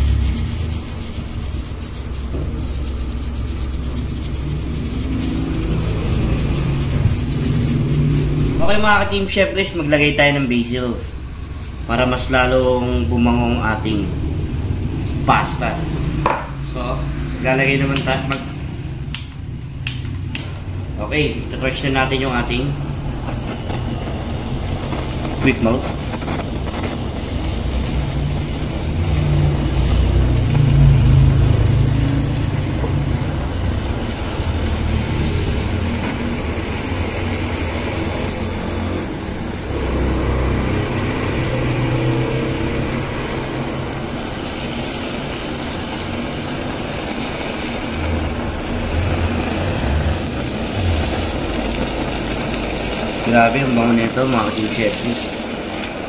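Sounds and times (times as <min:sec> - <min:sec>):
blowtorch flame: 0:00.0 - 0:56.0.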